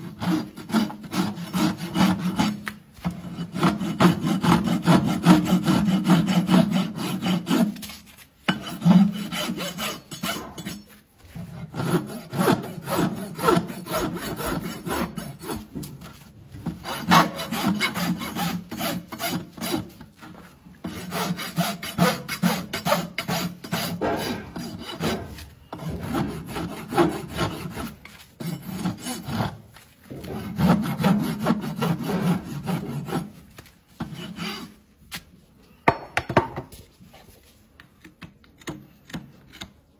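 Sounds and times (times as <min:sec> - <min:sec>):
hoof rasp scraping hoof: 0:00.0 - 0:35.4.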